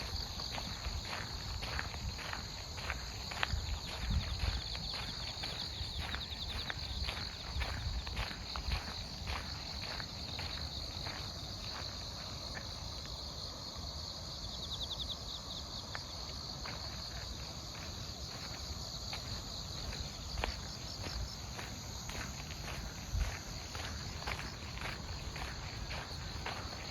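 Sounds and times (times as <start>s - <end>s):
footsteps: 0.0s - 13.3s, 15.8s - 26.9s
crickets chirping: 0.0s - 26.9s
insect fast trill: 0.0s - 26.9s.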